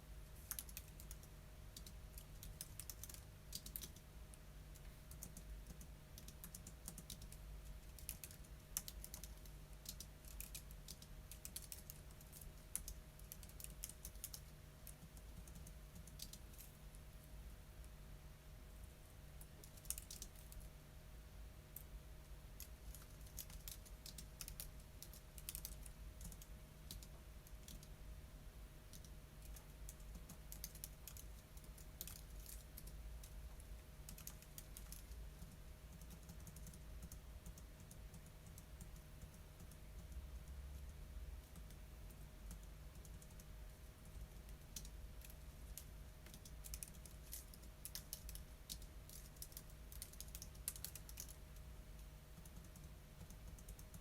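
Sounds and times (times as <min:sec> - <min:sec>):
faint steady hum: 0:00.0 - 0:54.0
keyboard typing clicks: 0:00.4 - 0:04.1, 0:04.7 - 0:16.7, 0:19.4 - 0:20.7, 0:22.6 - 0:27.9, 0:28.9 - 0:33.4, 0:34.0 - 0:51.4, 0:52.0 - 0:54.0.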